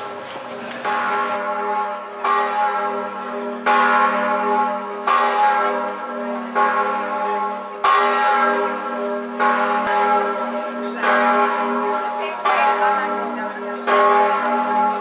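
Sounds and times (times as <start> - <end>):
church bell tolling: 0.0 - 15.0.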